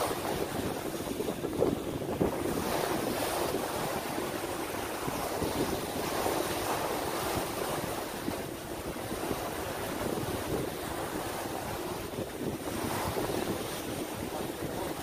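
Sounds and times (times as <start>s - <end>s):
harbour water washing: 0.0s - 15.0s
wind on microphone: 0.0s - 15.0s.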